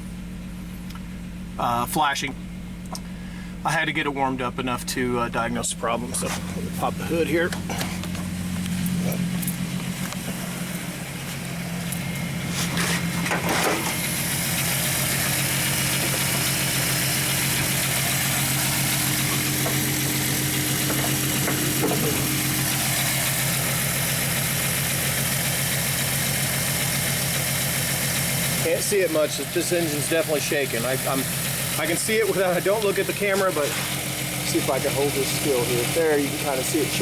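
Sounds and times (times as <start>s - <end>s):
engine idling roughly: 0.0s - 37.0s.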